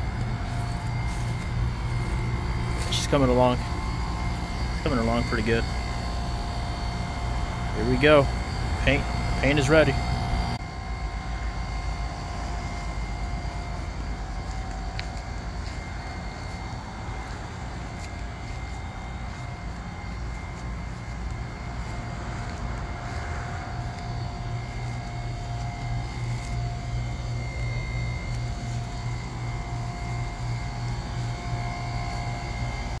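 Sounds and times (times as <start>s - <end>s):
faint machine whine: 0.0s - 33.0s
machine droning hum: 0.0s - 33.0s.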